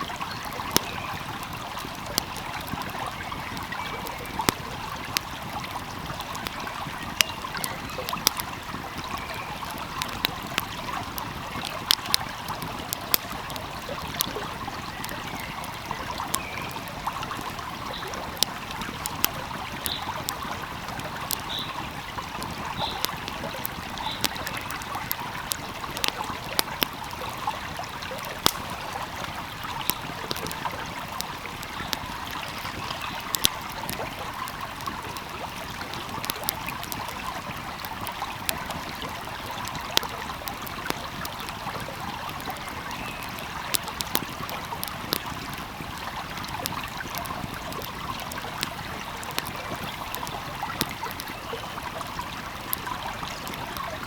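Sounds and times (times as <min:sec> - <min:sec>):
stream flowing: 0:00.0 - 0:54.0
wood fire crackling: 0:00.0 - 0:54.0.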